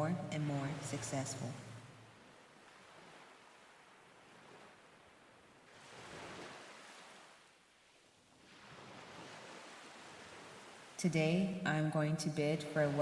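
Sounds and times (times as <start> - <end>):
faint ocean waves washing: 0.0 - 13.0.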